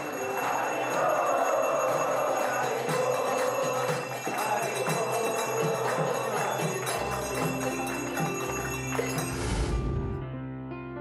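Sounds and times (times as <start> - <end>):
bell rung rhythmically: 0.0 - 9.9
devotional worship music: 0.0 - 10.6.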